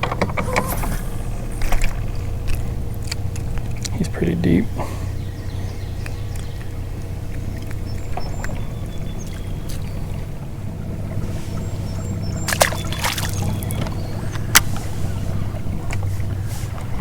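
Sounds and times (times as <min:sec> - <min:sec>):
boat engine hum: 0:00.0 - 0:17.0.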